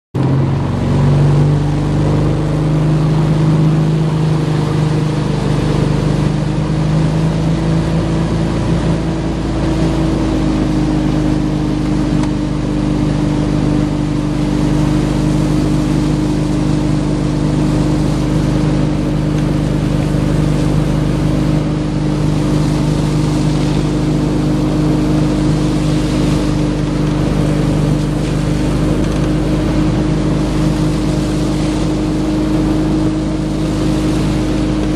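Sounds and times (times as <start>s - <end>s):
boat engine running: 0.2s - 34.9s
wind and water rushing: 0.2s - 34.9s.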